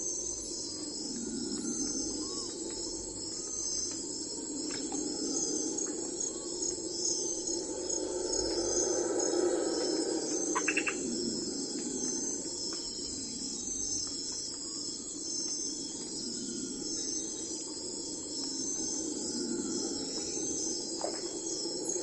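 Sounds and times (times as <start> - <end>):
insects chirping in a pulsing trill: 0.0 - 22.0.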